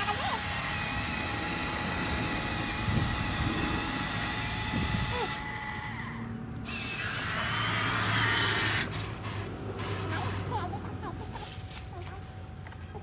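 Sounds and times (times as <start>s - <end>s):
toy truck motor whirring: 0.0s - 10.6s.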